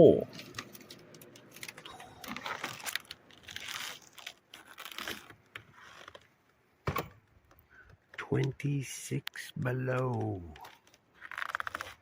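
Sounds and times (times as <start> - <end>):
crinkling and crunching handling: 0.0 - 6.6, 7.2 - 12.0.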